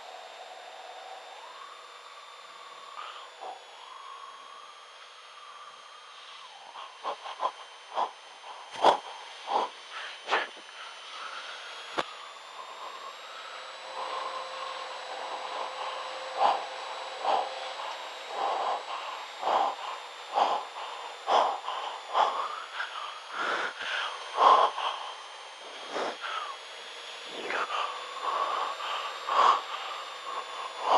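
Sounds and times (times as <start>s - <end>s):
cockpit noise hiss: 0.0s - 26.6s.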